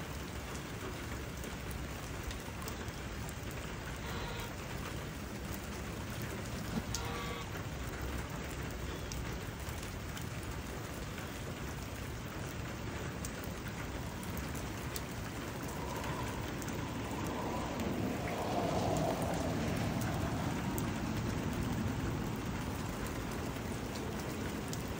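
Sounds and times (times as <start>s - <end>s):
rain falling on grass and puddles: 0.0s - 24.9s.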